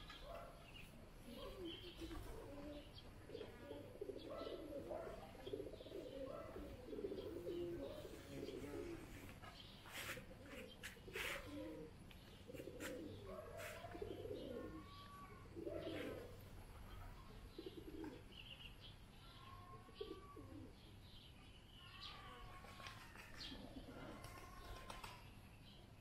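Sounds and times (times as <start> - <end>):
doves cooing: 0.0 - 18.4, 19.8 - 20.8, 22.4 - 25.3.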